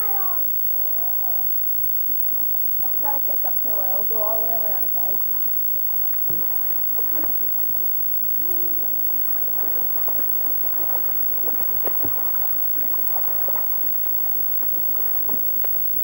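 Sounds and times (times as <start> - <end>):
faint voices: 0.0 - 16.0
pool water splashing: 2.9 - 16.0.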